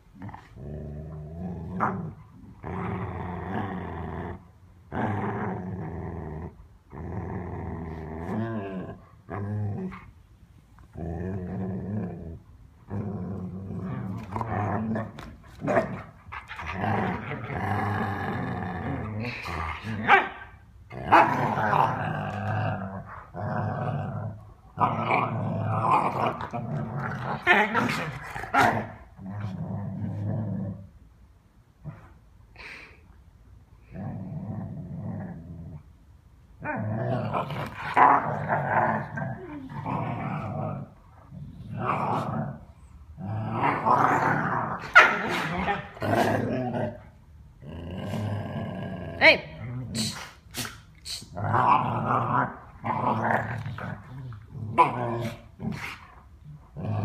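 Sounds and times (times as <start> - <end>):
dogs play-growling: 0.0 - 31.0, 33.8 - 35.9, 36.6 - 57.0.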